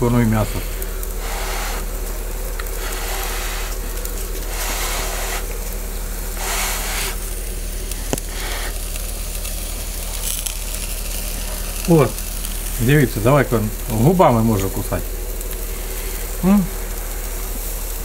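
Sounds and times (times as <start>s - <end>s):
low hum: 0.0s - 18.0s
steady background hiss: 0.0s - 18.0s.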